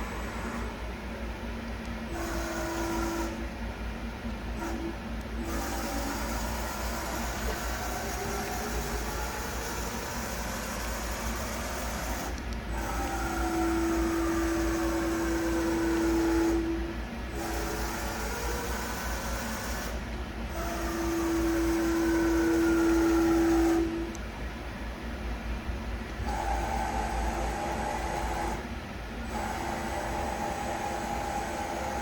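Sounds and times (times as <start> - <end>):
held machine whine: 0.0 - 24.6, 25.9 - 32.0.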